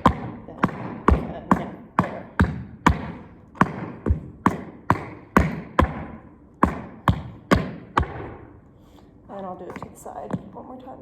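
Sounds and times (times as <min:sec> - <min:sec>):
tap shoes striking floor: 0:00.0 - 0:08.4, 0:09.6 - 0:10.7.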